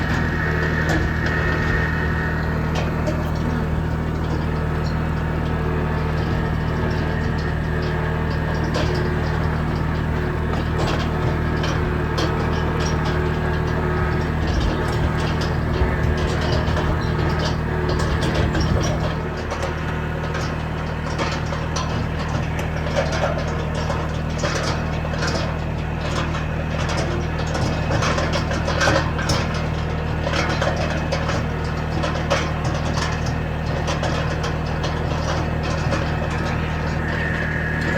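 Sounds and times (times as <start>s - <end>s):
engine running steadily: 0.0s - 37.9s
short clacks and crackles: 0.0s - 37.9s.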